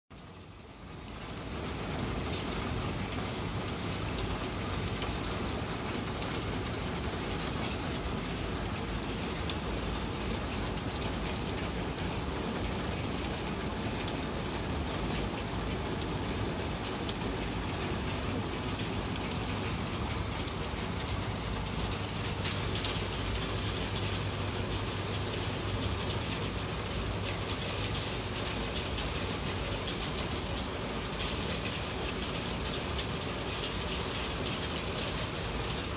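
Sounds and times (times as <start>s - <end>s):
rain falling: 0.1s - 35.9s.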